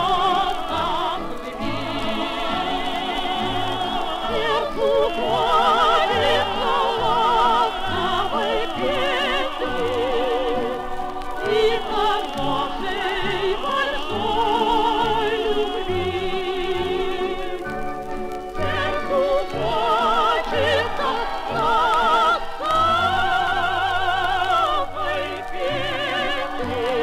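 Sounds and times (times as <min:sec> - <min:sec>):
old record of trio singing: 0:00.0 - 0:27.0
orchestra with choir: 0:00.0 - 0:27.0.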